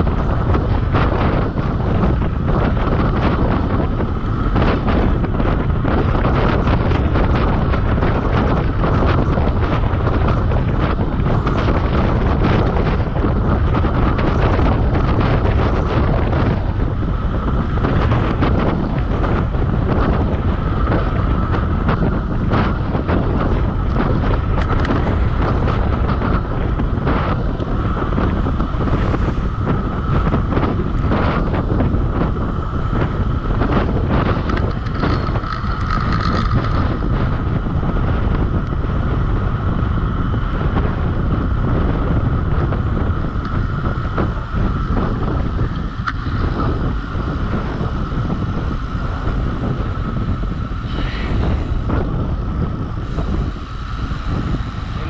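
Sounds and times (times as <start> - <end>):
thin constant whine: 0.0 - 55.0
wind buffeting microphone: 0.0 - 55.0.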